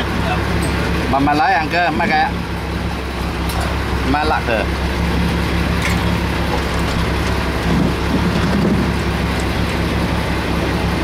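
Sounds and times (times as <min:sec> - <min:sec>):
boat engine humming: 0:00.0 - 0:11.0
wind: 0:00.0 - 0:11.0
sea noise: 0:01.9 - 0:11.0.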